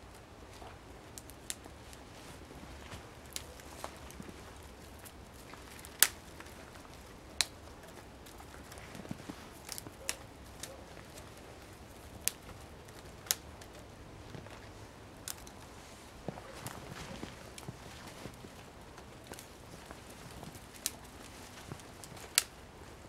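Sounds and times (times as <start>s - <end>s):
twigs snapping: 0.5s - 22.8s.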